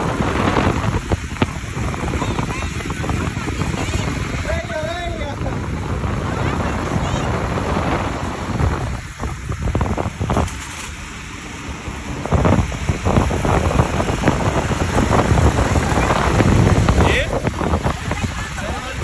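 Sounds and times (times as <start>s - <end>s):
water rushing and slapping: 0.0s - 19.0s
wind buffeting microphone: 0.0s - 19.0s.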